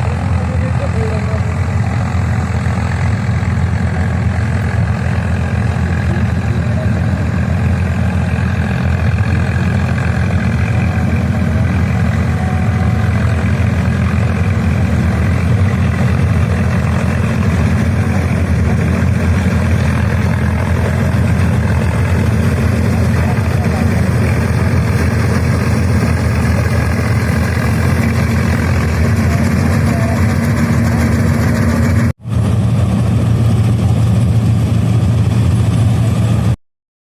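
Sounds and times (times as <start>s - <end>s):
tractor diesel engine droning: 0.0s - 36.6s.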